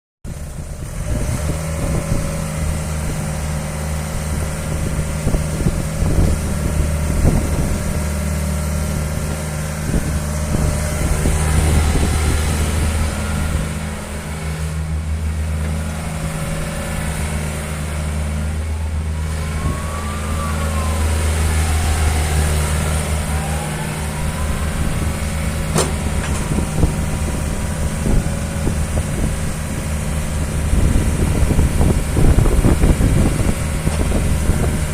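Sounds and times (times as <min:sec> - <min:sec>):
excavator diesel engine idling: 0:00.3 - 0:34.9
rising and falling whine: 0:00.6 - 0:34.9.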